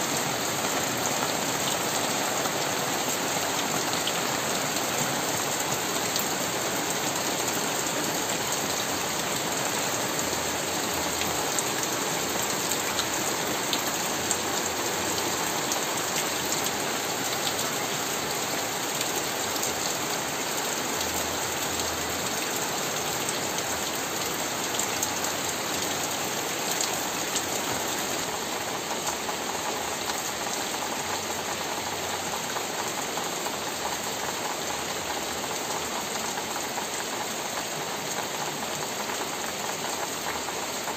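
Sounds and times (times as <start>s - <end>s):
rain falling on foliage and roofs: 0.0s - 40.9s.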